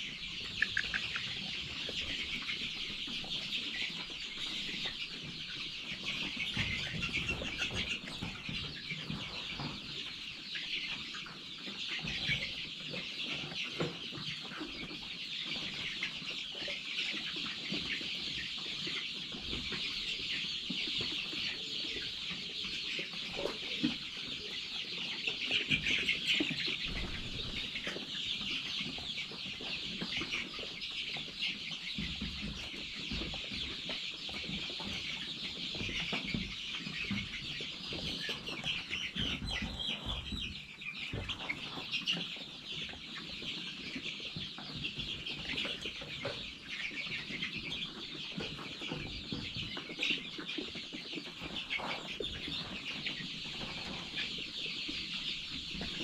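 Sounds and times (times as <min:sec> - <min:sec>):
young chickens peeping and clucking: 0:00.0 - 0:56.0.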